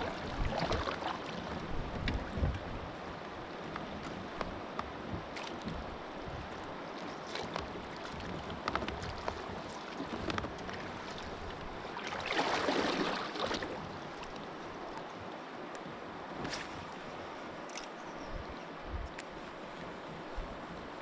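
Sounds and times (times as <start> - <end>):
water around a kayak: 0.0 - 21.0
wind: 0.0 - 21.0.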